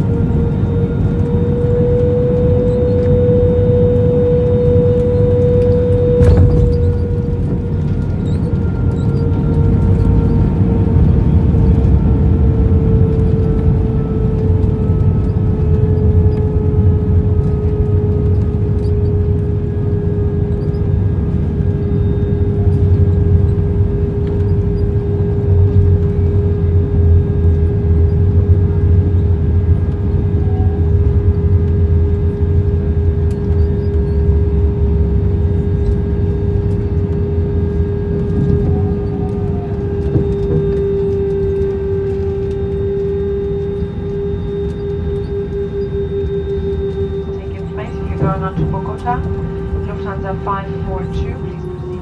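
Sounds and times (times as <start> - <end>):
steady cabin hum: 0.0 - 24.0, 34.3 - 52.0
jet engines idling rumble: 0.0 - 52.0.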